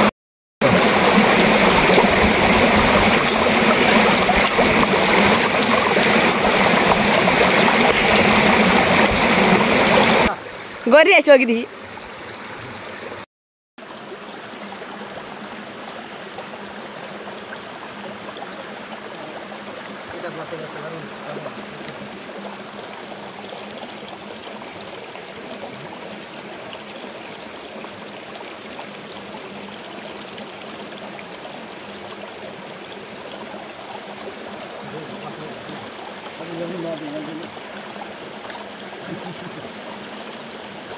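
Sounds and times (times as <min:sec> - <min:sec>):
stream rushing over rocks: 0:00.0 - 0:13.2, 0:13.8 - 0:40.9.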